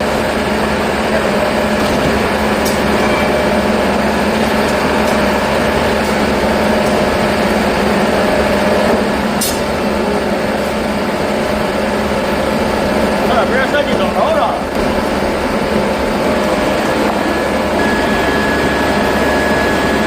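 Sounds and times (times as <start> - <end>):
machinery droning: 0.0 - 20.0.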